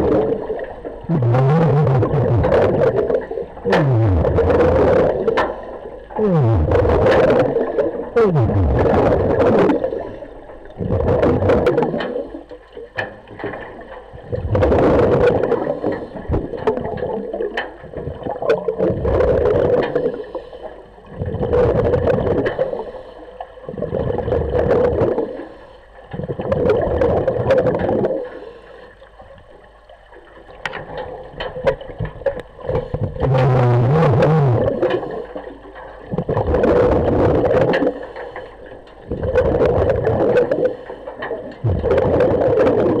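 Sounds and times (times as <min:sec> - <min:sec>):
air bubbles underwater: 0:00.0 - 0:23.0, 0:23.6 - 0:28.4, 0:30.4 - 0:38.1, 0:38.8 - 0:43.0.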